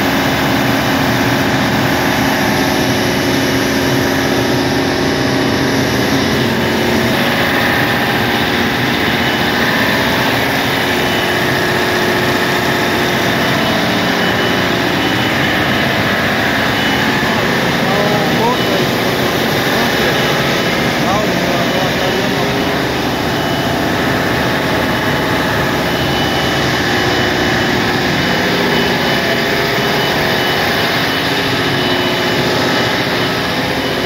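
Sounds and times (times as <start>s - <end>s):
diesel machinery droning: 0.0s - 34.0s.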